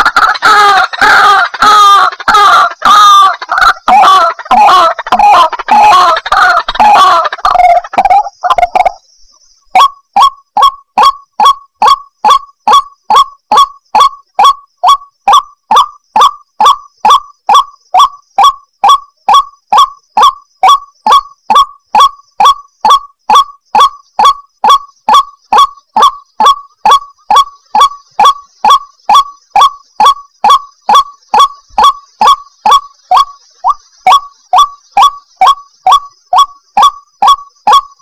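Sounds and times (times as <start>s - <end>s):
waterhen harsh calls: 0.0s - 9.0s, 9.8s - 38.0s.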